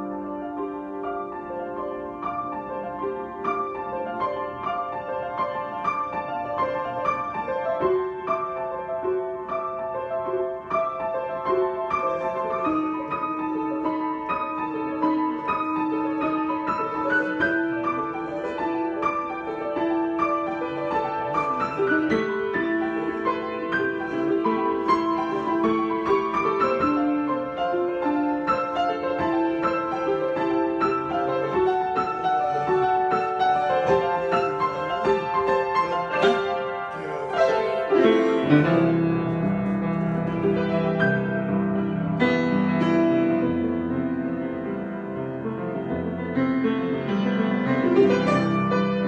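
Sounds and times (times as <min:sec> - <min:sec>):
solo piano: 0:00.0 - 0:49.0.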